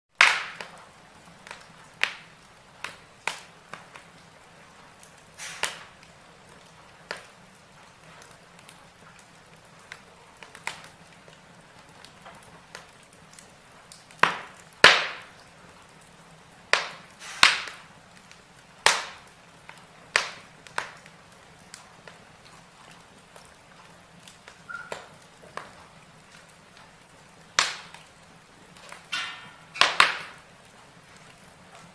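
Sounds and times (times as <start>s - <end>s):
wood fire crackling: 0.1s - 31.9s.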